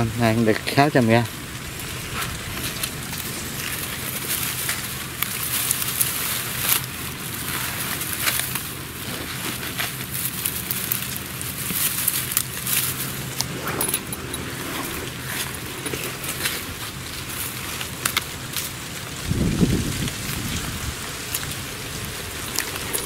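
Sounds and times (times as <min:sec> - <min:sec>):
dry straw crackling and rustling: 0:00.0 - 0:23.0.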